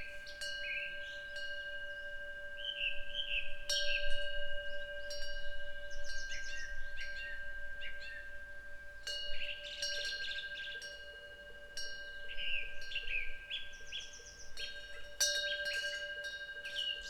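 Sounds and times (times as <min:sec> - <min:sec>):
temple wind bell ringing: 0:00.0 - 0:17.0.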